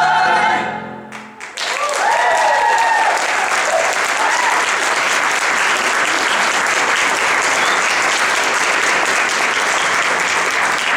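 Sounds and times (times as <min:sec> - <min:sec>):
audience applause: 0:01.1 - 0:10.9.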